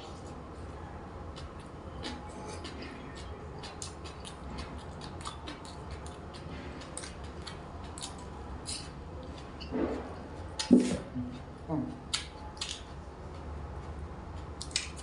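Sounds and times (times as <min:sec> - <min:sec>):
chewing and crunching food: 0:00.0 - 0:15.0
low steady hum: 0:00.0 - 0:15.0.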